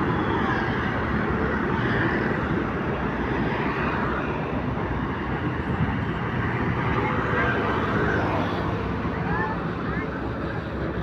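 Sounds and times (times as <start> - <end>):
traffic passing: 0.0 - 11.0.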